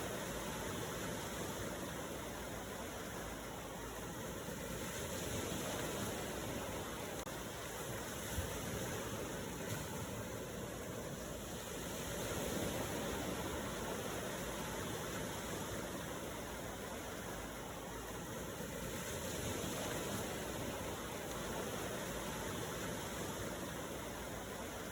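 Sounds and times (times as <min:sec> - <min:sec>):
ocean waves surf: 0:00.0 - 0:24.9.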